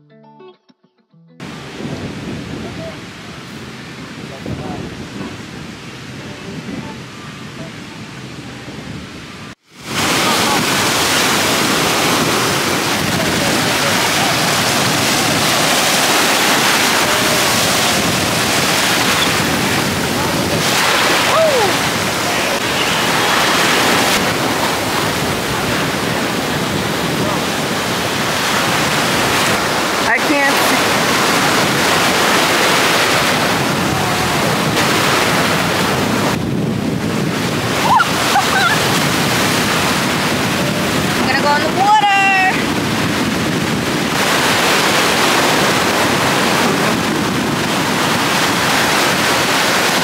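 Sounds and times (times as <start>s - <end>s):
ocean surf: 1.4s - 50.0s
wind: 1.4s - 50.0s.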